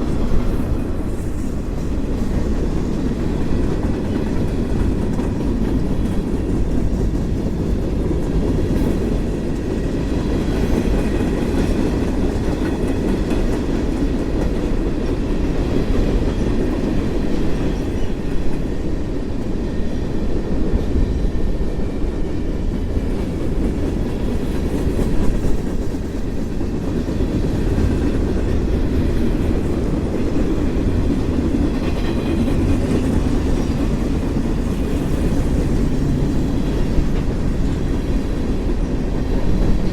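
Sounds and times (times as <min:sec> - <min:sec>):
clickety-clack of rail joints: 0:00.0 - 0:39.9
freight train wheels rumbling on rail: 0:00.0 - 0:39.9.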